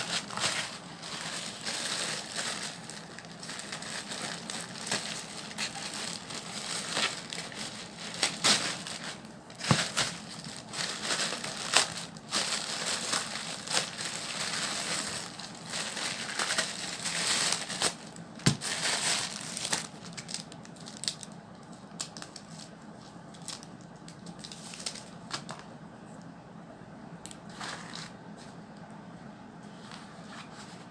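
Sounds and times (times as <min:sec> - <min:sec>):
plastic packaging crinkling: 0:00.0 - 0:25.6.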